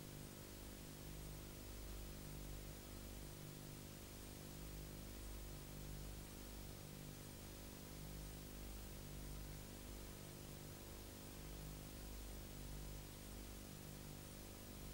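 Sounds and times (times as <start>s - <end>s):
faint electrical hum with hiss: 0.0s - 14.9s.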